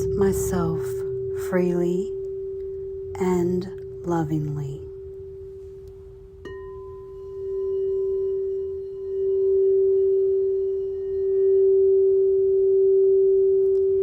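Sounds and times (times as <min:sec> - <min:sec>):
crystal singing bowl ringing: 0:00.0 - 0:14.0.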